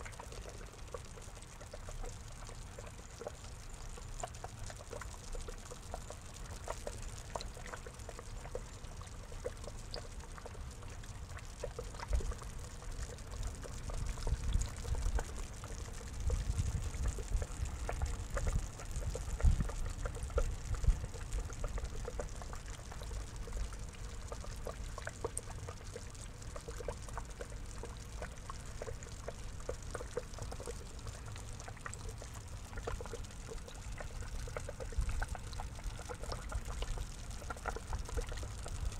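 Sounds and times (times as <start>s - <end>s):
water drips: 0.0s - 38.9s
water trickling into pond: 0.0s - 38.9s.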